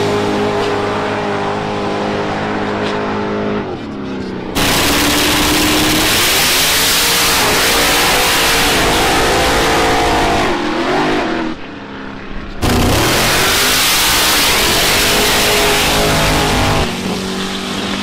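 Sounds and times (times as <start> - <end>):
racing engines at full throttle: 0.0 - 18.0.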